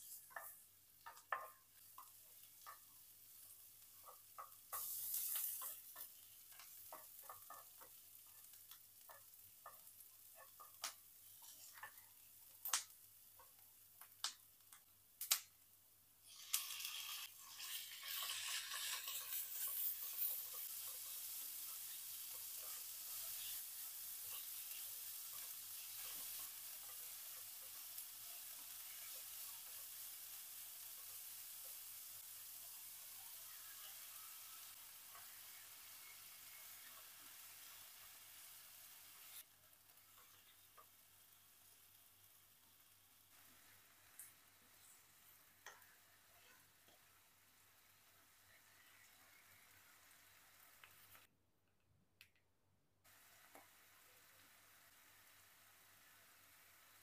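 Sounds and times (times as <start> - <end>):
food frying in hot oil: 0.0 - 51.3, 53.0 - 57.0.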